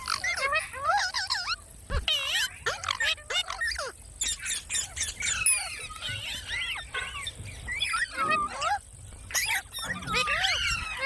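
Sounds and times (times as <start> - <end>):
parrot chirping and squawking: 0.0 - 11.0.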